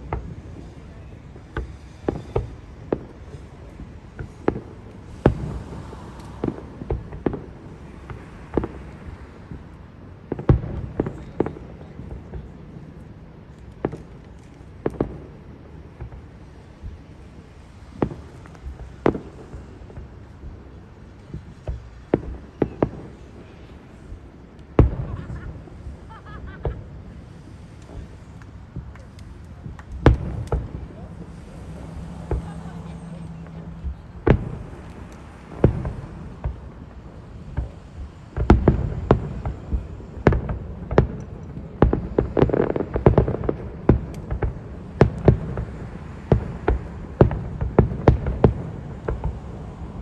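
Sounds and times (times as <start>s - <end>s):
fireworks bursting: 0.0s - 50.0s.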